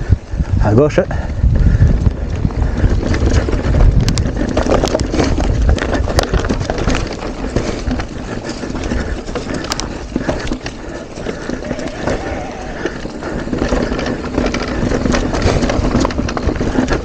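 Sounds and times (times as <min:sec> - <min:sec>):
bike rattling and knocking: 0:00.0 - 0:17.0
wind buffeting microphone: 0:00.0 - 0:17.0
bike tyres clattering: 0:01.4 - 0:17.0.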